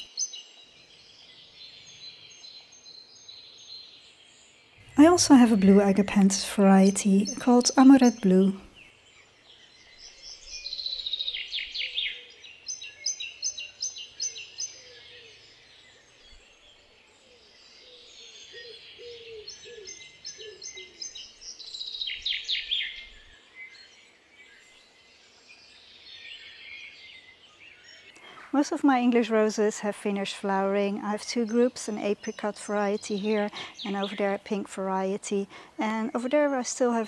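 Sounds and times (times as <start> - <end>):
songbirds singing: 0.0 - 37.0.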